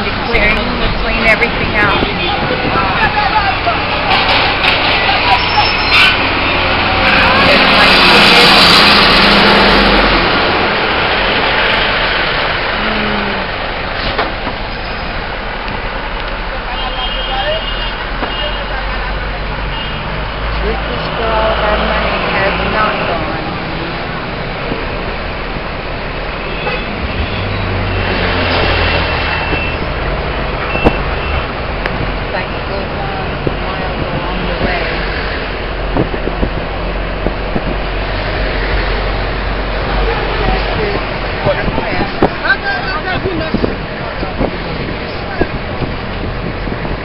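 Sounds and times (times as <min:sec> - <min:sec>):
traffic engine and road noise: 0:00.0 - 0:47.0.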